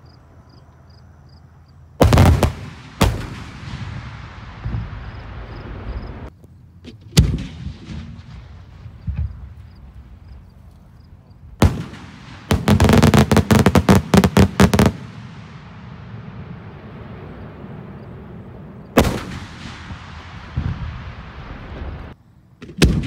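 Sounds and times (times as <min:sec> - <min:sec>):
firework bangs: 0:02.0 - 0:10.6, 0:11.5 - 0:23.0.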